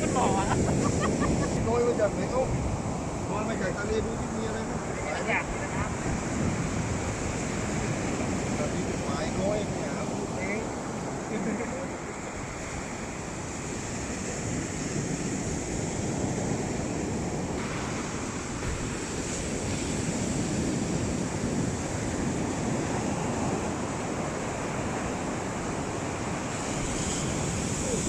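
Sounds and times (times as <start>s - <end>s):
sea waves breaking on beach: 0.0s - 28.0s
wind buffeting microphone: 0.0s - 28.0s.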